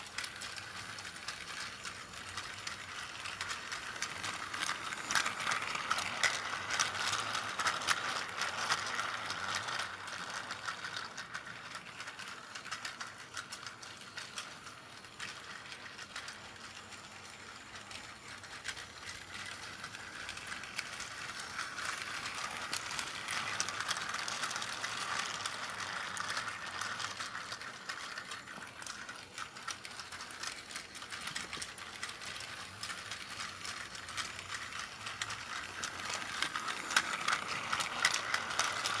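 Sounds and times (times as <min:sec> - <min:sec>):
toy train motor whirring and clicking: 0:00.0 - 0:39.0.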